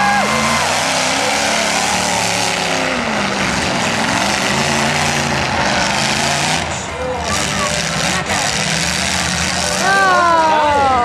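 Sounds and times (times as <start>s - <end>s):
loud rush of noise: 0.0s - 11.0s
truck engines revving: 0.0s - 11.0s.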